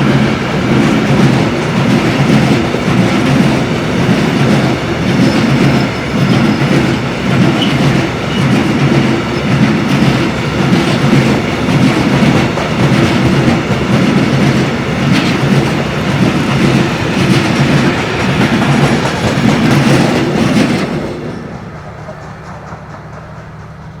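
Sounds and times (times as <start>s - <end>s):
freight train wheels clattering: 0.0s - 24.0s.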